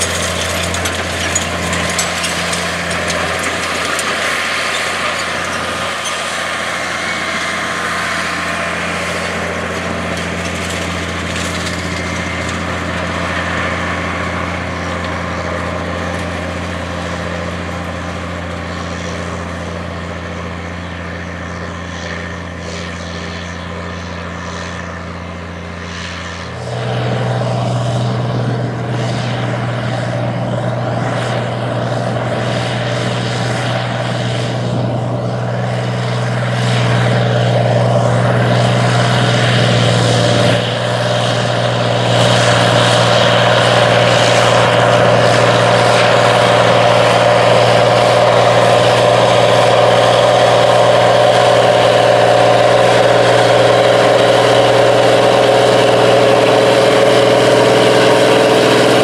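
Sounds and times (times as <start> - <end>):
second tractor engine: 0.0 - 59.0
tractor diesel engine droning: 0.0 - 59.0.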